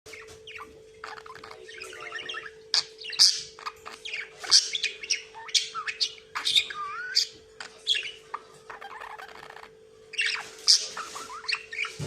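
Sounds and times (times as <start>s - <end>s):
budgerigar chattering and warbling: 0.1s - 12.0s
faint steady hum: 0.1s - 12.0s.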